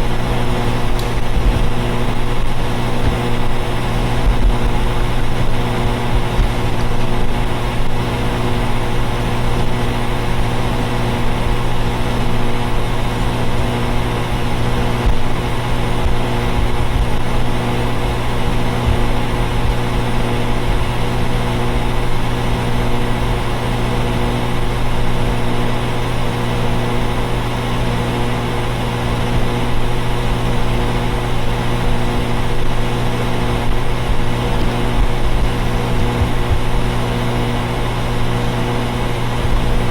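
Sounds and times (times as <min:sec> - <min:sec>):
air conditioners droning hum: 0:00.0 - 0:39.9.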